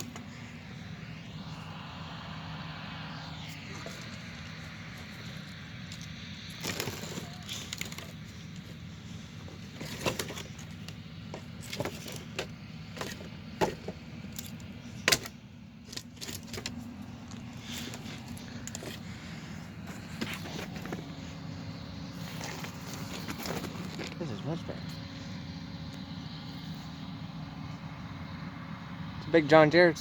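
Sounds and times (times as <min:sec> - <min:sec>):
distant farm machinery drone: 0:00.0 - 0:30.0.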